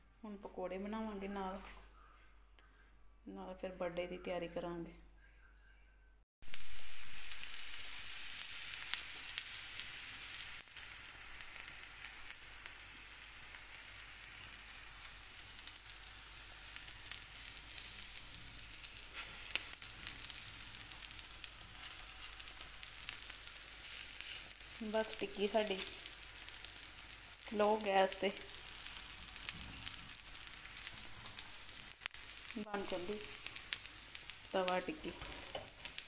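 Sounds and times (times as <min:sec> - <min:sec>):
food sizzling in oil: 0:06.4 - 0:36.0.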